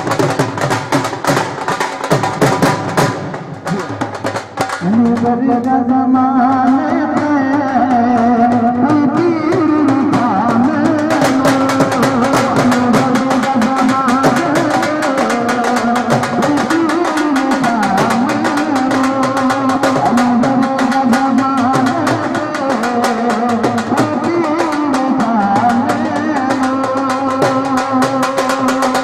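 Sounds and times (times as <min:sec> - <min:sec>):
fast dhol drumming: 0:00.0 - 0:29.0.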